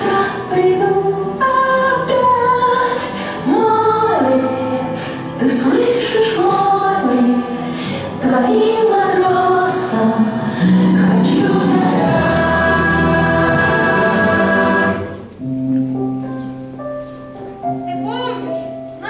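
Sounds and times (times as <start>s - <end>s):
voices singing together: 0.0s - 15.3s
backing music: 0.0s - 19.0s.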